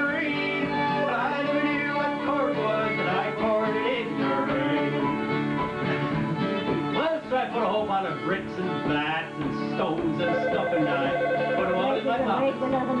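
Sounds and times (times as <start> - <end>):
man singing: 0.0 - 5.3, 6.4 - 13.0
acoustic guitar playing: 0.0 - 13.0
fiddle playing: 0.0 - 13.0.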